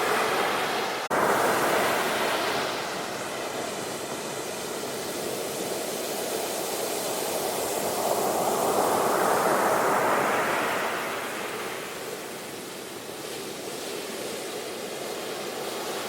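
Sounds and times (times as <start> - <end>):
ocean waves rushing in: 0.0 - 16.0.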